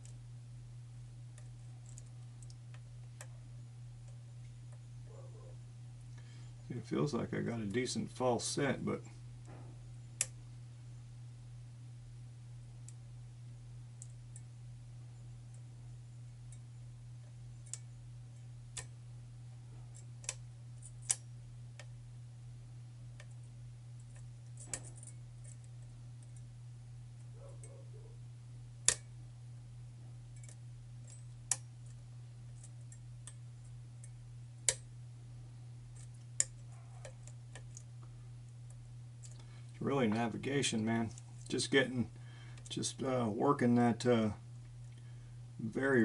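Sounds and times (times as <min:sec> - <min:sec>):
low hum: 0:00.0 - 0:46.0.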